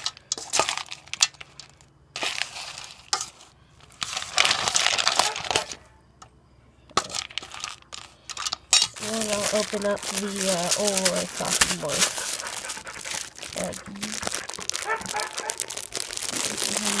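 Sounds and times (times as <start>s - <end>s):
spoon scraping and crunching in bowl: 0.0s - 1.6s, 2.2s - 5.7s, 7.0s - 17.0s.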